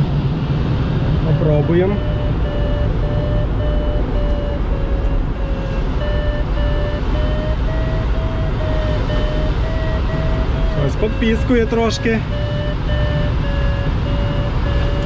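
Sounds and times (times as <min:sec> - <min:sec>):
rush of air around cockpit: 0:00.0 - 0:15.0
variometer short beeps: 0:01.2 - 0:15.0.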